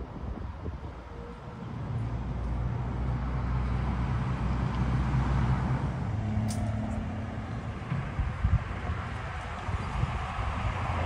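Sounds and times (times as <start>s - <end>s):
vehicle engine droning: 0.8s - 11.0s.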